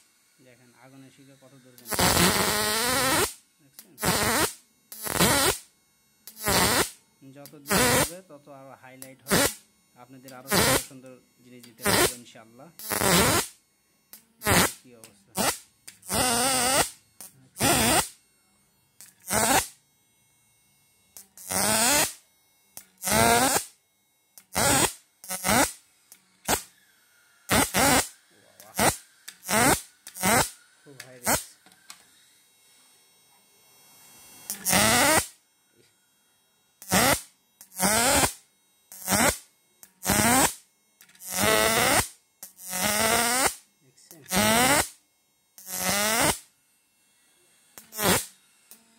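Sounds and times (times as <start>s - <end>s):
inverter buzzing in bursts: 0.0s - 48.9s.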